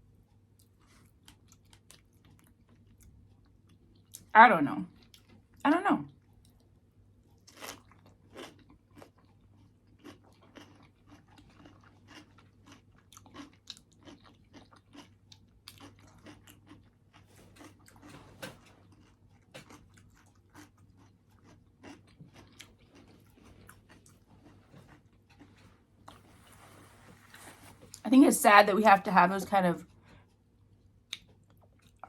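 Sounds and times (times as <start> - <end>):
person chewing crunchy food: 0.3 - 4.3, 4.9 - 28.0, 29.8 - 32.0.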